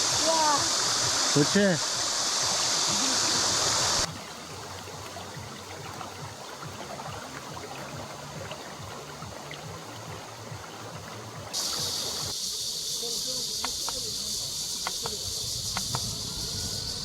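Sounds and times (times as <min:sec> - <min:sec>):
low rumbling water wash: 0:00.0 - 0:17.0
mountain stream rushing: 0:00.0 - 0:17.0.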